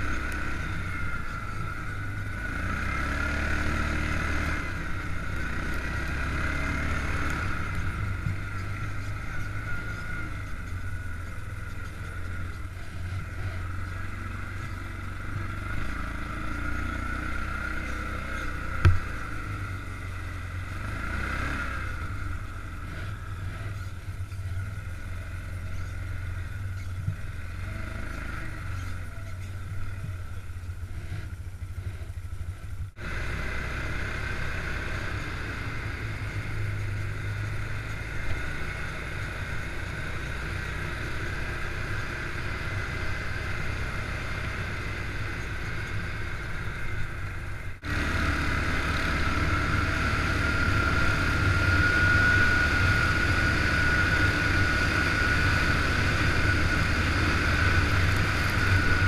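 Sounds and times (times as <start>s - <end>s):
engine whine: 0.0s - 59.0s
quad bike engine running: 0.0s - 59.0s.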